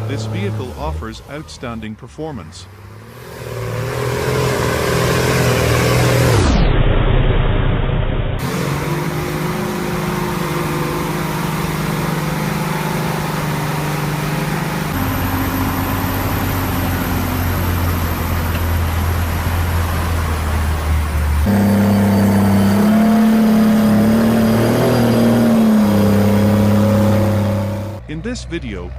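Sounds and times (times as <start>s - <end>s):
diesel truck engine under load: 0.0s - 6.4s, 8.4s - 28.9s.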